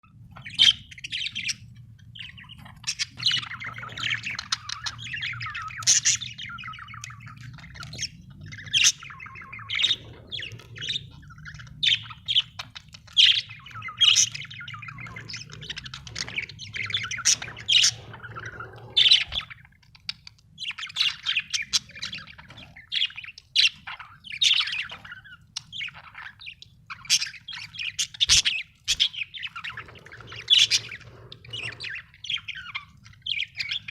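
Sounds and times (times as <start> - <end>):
budgerigars chattering: 0.3 - 33.9.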